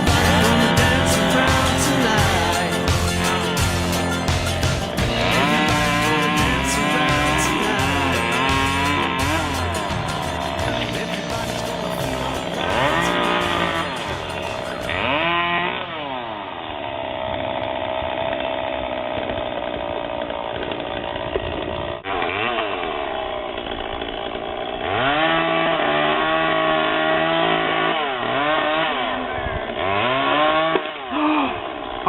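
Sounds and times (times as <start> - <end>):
chainsaw cutting tree: 0.0 - 32.0.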